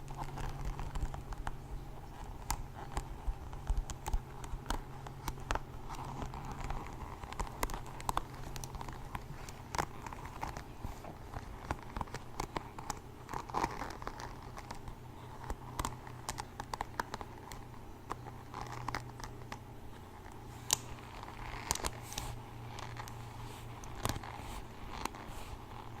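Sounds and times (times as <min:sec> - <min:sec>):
crinkling and rustling: 0:00.0 - 0:26.0.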